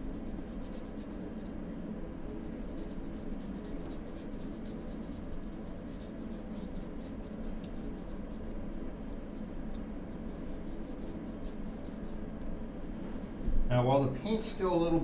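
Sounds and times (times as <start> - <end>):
scratchy brush strokes on canvas: 0.0 - 12.3.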